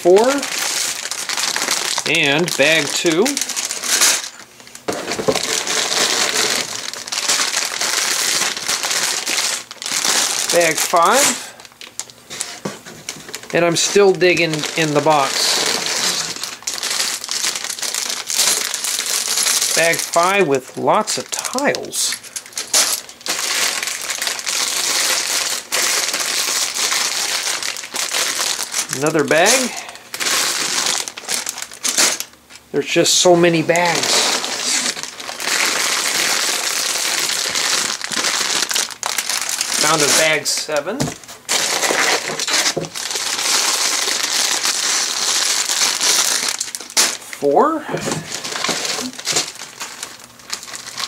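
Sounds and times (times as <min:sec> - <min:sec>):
plastic bags crinkling: 0:00.0 - 0:47.3, 0:47.9 - 0:51.0.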